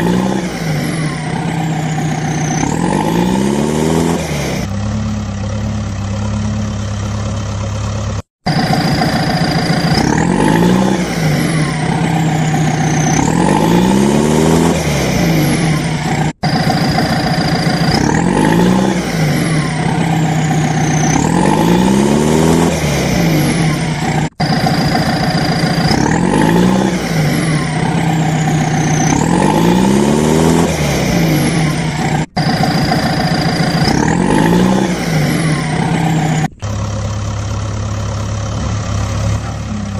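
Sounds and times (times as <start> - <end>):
low engine hum: 0.0 - 39.9
vehicle engine revving: 0.0 - 39.9.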